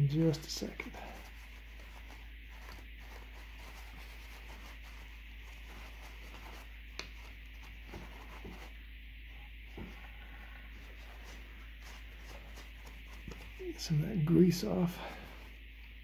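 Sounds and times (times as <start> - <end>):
paper towel rubbing plastic: 0.0 - 16.0.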